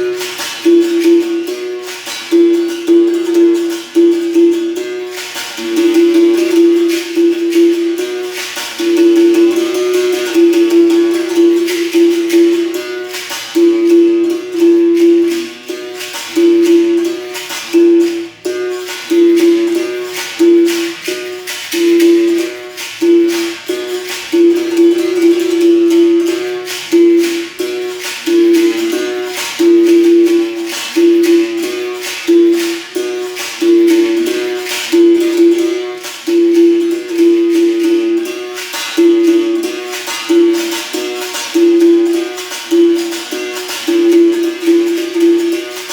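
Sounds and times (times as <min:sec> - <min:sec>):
basket rattle shaking: 0:00.0 - 0:45.9.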